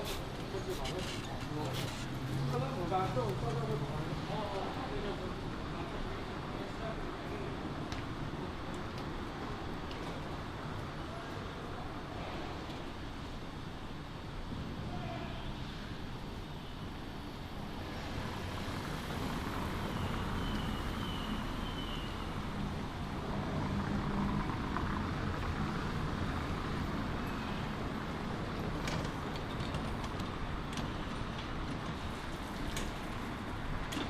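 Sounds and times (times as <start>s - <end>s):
rumble of passing vehicles: 0.0s - 34.0s.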